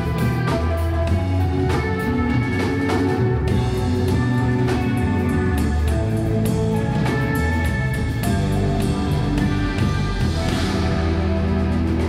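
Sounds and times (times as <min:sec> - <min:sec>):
drum kit beat: 0:00.0 - 0:12.0
electric guitar notes: 0:00.0 - 0:12.0.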